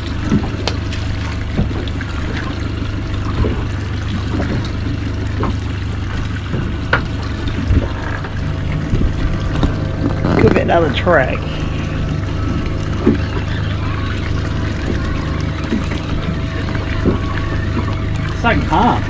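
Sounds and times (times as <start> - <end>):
steady low rumble: 0.0 - 19.0
water splashing against boat hull: 0.0 - 19.0.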